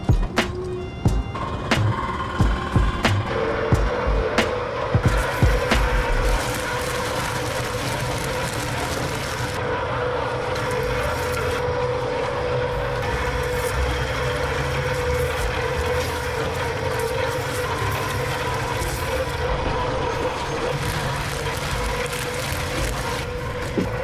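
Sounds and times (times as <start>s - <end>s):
constant whine: 0.0s - 24.0s
large engine running: 0.0s - 24.0s.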